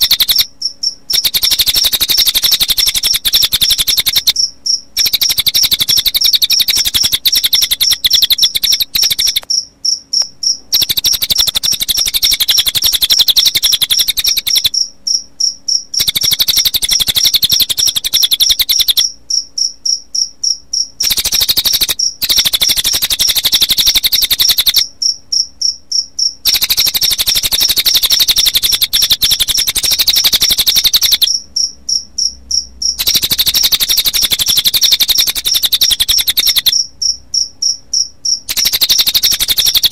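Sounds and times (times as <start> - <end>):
bird song trill: 0.0 - 39.9
crickets chirping: 0.0 - 39.9.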